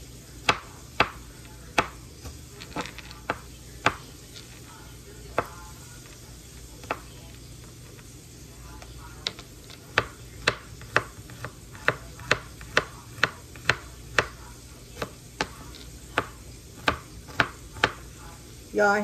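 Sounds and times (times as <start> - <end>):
knife chopping on cutting board: 0.4 - 4.7, 5.3 - 8.0, 8.8 - 18.4.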